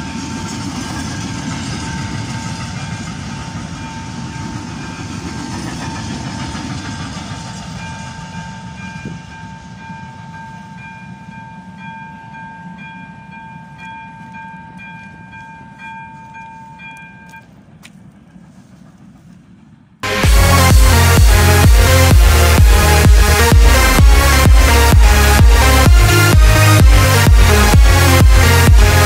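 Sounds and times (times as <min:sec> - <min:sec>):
freight train wagons rumbling: 0:00.0 - 0:29.0.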